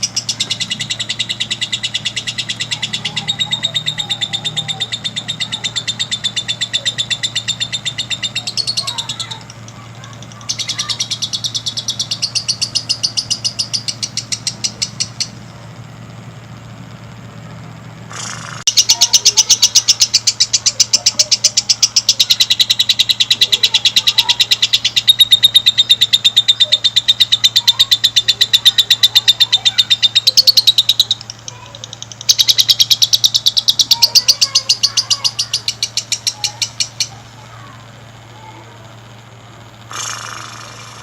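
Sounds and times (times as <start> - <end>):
lovebird chattering call: 0.0 - 16.0, 18.1 - 41.0
low steady hum: 0.0 - 41.0.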